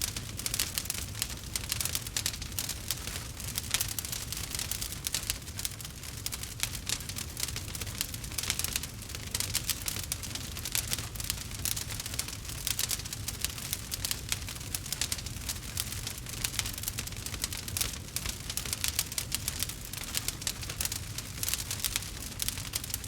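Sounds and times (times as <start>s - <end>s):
low rumble of flames: 0.0s - 23.0s.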